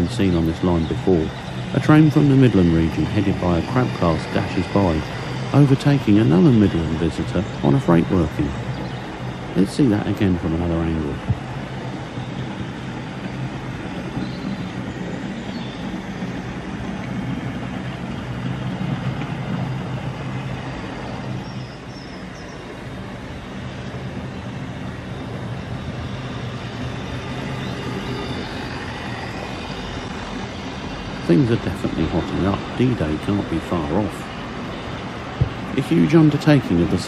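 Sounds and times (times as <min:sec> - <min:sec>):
model train wheels rumbling: 0:00.0 - 0:37.0.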